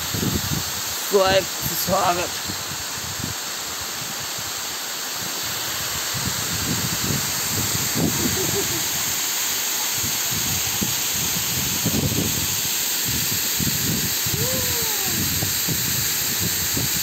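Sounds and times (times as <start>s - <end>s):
waterfall splashing into pool: 0.0s - 17.0s.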